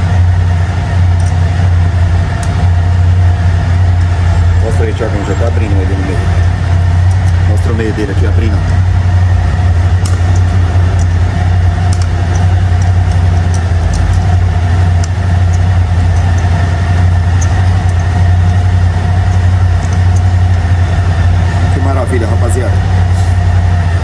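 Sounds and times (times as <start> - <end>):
machine humming: 0.0 - 24.0.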